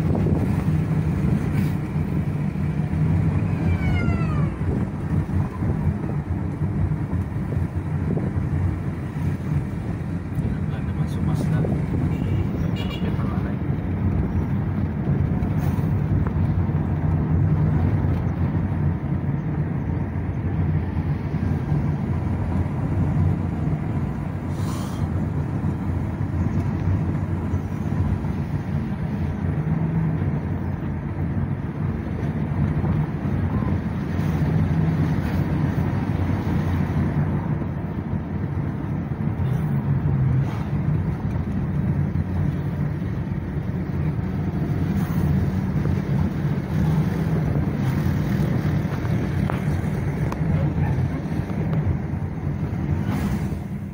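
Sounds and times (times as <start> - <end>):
wind buffeting microphone: 0.0 - 12.8, 13.4 - 53.9
car engine and road rumble: 0.0 - 53.9.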